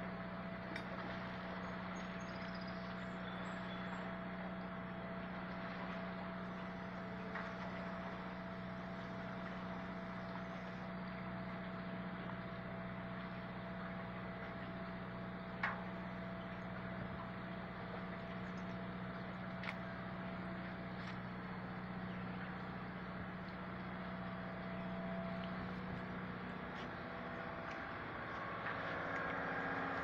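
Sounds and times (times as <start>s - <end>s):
boat engine running slowly: 0.0s - 30.0s.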